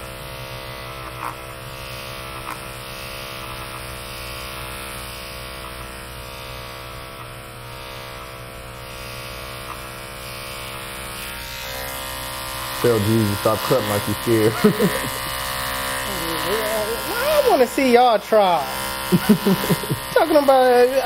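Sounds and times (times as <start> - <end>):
hair clipper humming: 0.0 - 21.0.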